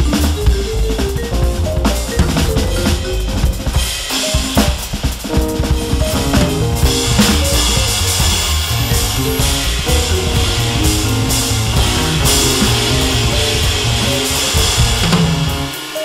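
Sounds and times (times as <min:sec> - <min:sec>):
low bass line: 0:00.0 - 0:03.8, 0:05.4 - 0:15.7
electronic drum kit playing: 0:00.0 - 0:16.0
stepped pitched notes: 0:00.0 - 0:16.0.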